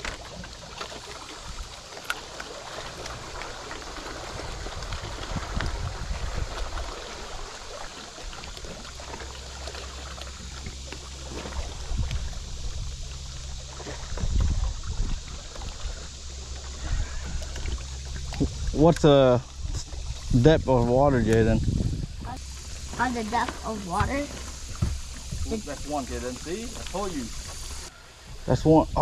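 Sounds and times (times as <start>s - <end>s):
low steady hum: 0.0s - 29.0s
water lapping against boat hull: 0.0s - 29.0s.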